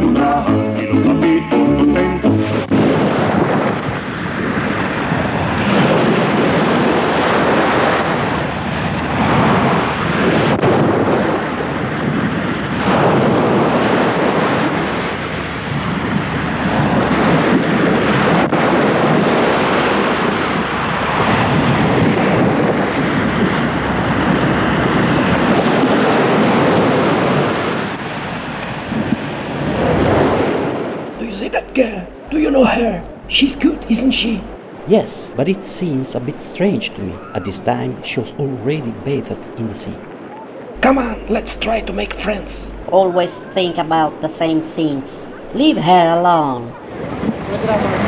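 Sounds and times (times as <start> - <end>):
waves washing onto sandy beach: 2.2 - 48.0.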